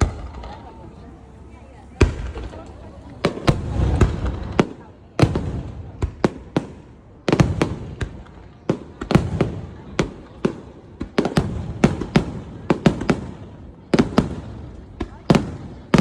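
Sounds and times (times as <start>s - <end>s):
fireworks bursting with sharp bangs: 0.0s - 16.0s.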